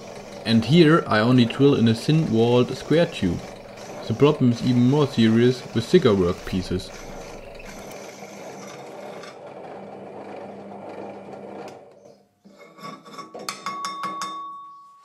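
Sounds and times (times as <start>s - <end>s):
drill press whirring: 0.0s - 12.2s.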